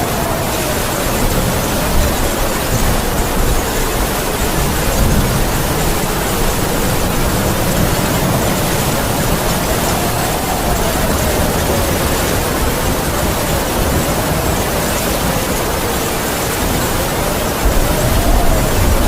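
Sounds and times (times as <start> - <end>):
heavy rain falling: 0.0 - 19.0
wind howling: 0.0 - 19.0.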